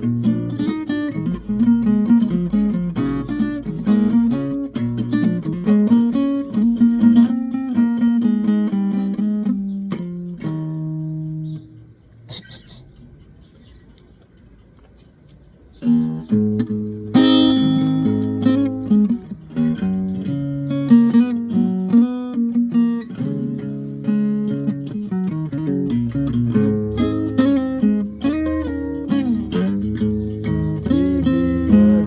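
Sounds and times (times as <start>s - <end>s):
guitar picked melody: 0.0s - 12.3s, 15.8s - 32.0s.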